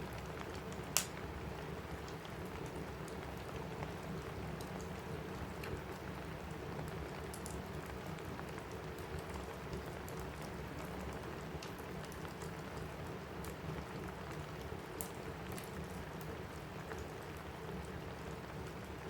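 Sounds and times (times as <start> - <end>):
rain on a roof: 0.0 - 19.0
wood fire crackling: 0.0 - 19.0.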